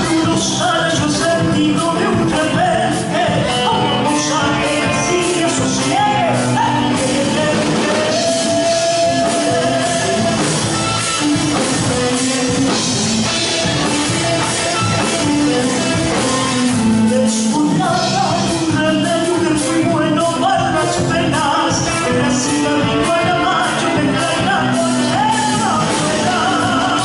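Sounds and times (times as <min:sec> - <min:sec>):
backing band playing: 0:00.0 - 0:27.0
person singing: 0:00.0 - 0:27.0.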